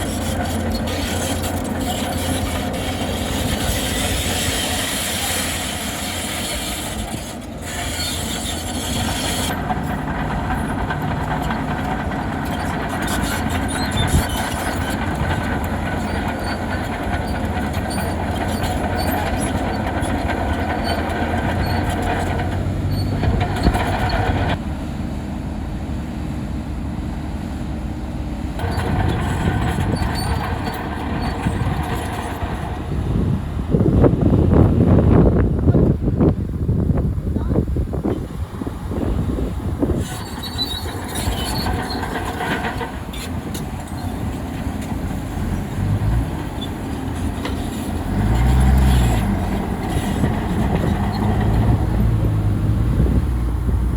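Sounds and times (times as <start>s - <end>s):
steel tracks clattering: 0.0s - 24.7s, 28.5s - 36.2s, 38.1s - 53.9s
diesel engine running: 0.0s - 53.9s.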